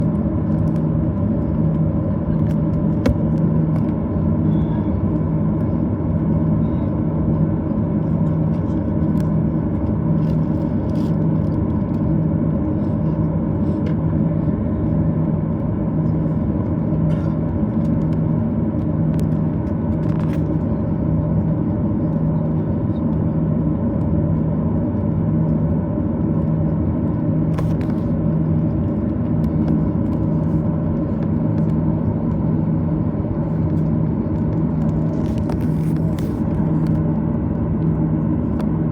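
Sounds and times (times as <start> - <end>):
airplane cabin rumble: 0.0 - 38.9
low droning hum: 0.0 - 38.9.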